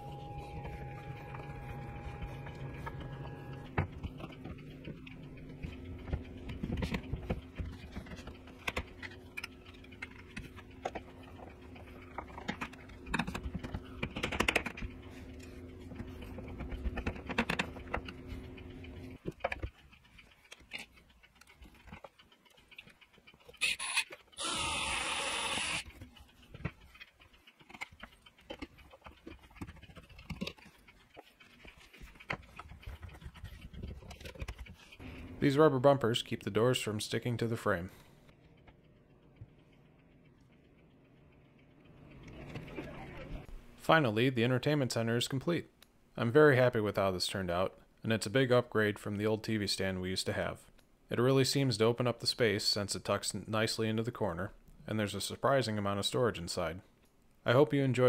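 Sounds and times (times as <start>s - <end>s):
steady low hum: 0.0s - 57.6s.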